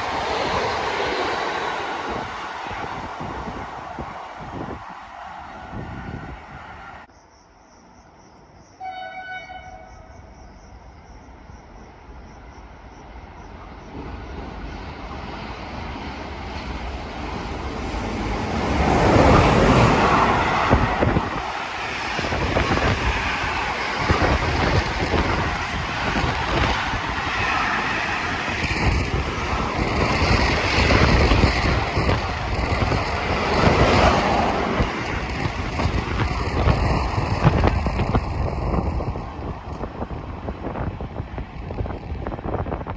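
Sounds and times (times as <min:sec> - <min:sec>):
wind buffeting microphone: 0:00.0 - 0:07.1, 0:13.5 - 0:42.9
train passing: 0:00.0 - 0:07.2, 0:08.4 - 0:42.9.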